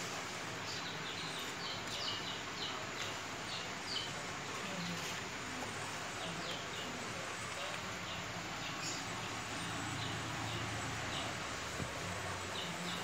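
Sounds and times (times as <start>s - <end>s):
steady background hiss: 0.0s - 13.0s
birds chirping: 0.4s - 13.0s.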